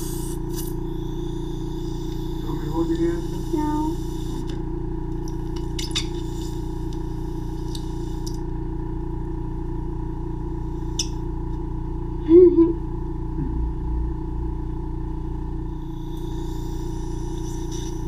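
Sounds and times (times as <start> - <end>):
suction vacuum running: 0.0 - 12.2, 13.0 - 18.0.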